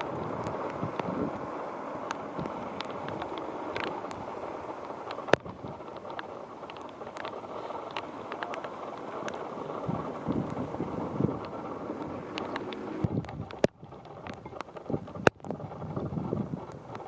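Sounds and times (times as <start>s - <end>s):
rain ticking: 0.0s - 17.0s
strong wind buffeting microphone: 0.0s - 17.0s.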